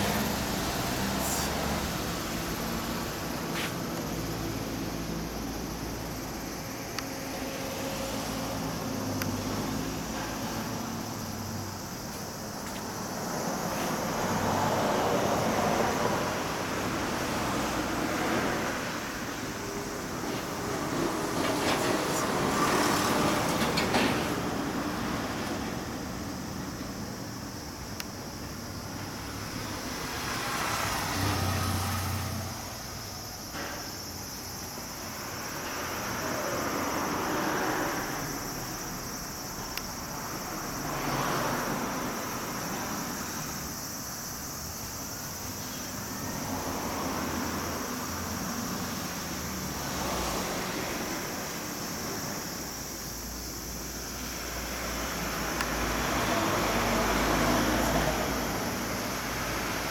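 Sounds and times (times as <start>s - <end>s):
road traffic passing: 0.0s - 59.9s
steady background hiss: 0.0s - 59.9s.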